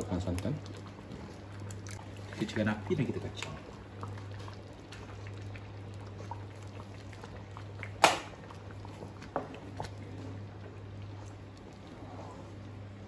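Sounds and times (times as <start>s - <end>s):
low steady hum: 0.0s - 13.0s
wooden spoon stirring porridge: 0.0s - 13.0s.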